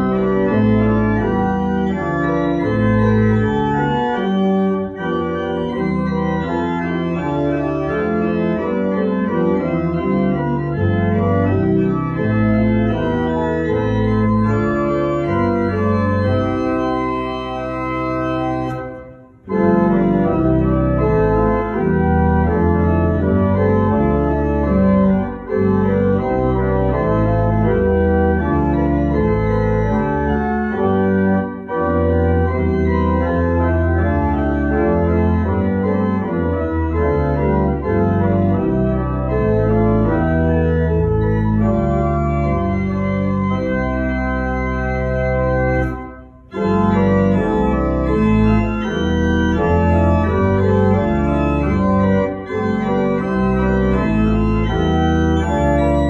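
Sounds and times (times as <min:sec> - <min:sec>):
church organ playing chords: 0:00.0 - 0:56.0.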